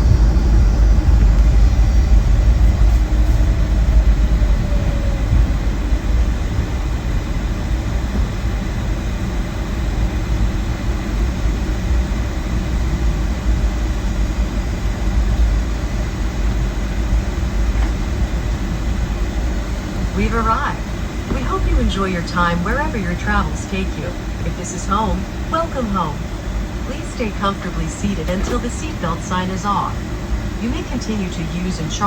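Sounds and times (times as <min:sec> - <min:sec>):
aircraft cabin rumble: 0:00.0 - 0:32.0.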